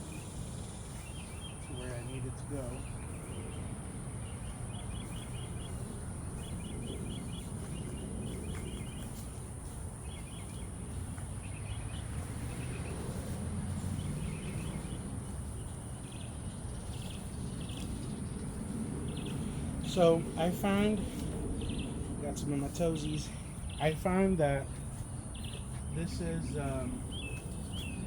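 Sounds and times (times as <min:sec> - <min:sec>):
bird chirping: 0:00.0 - 0:28.0
low outdoor rumble: 0:00.0 - 0:28.0.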